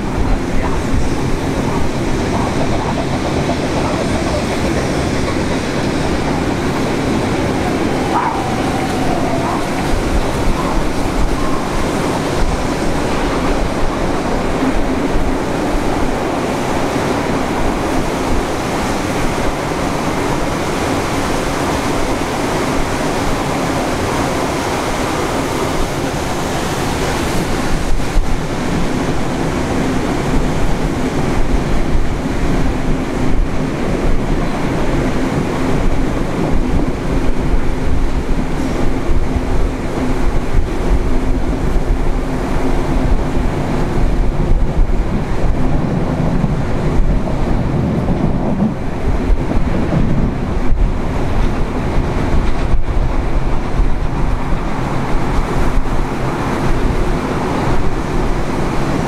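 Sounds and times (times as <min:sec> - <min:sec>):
train wheels on track: 0:00.0 - 0:59.0
wind noise: 0:00.0 - 0:59.0.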